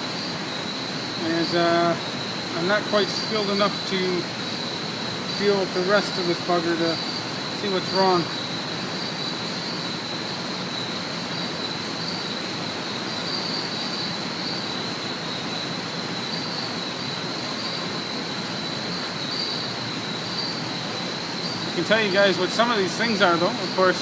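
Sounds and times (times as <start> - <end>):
high-pitched whine: 0.0 - 24.0
steady background hiss: 0.0 - 24.0.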